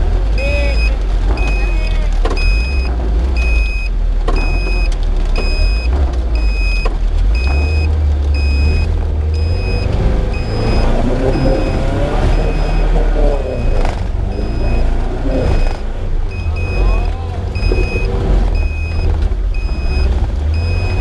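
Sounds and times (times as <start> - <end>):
low engine rumble: 0.0 - 21.0
electronic beeping: 0.3 - 21.0.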